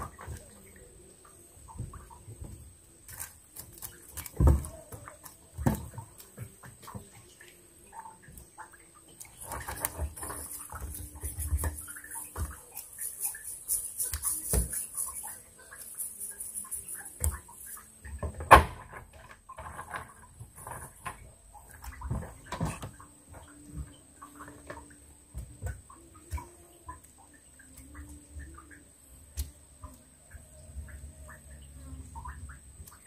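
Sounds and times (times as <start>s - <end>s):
water splashing and dripping: 0.0s - 33.0s.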